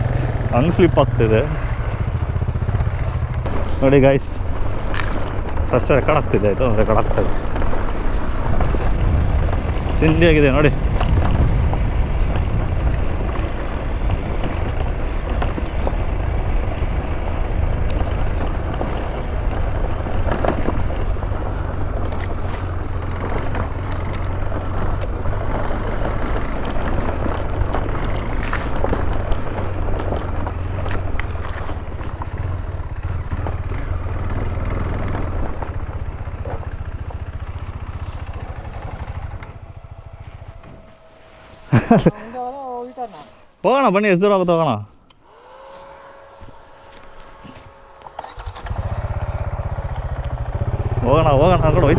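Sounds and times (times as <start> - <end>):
motorcycle engine running: 0.0 - 43.7, 45.0 - 51.9.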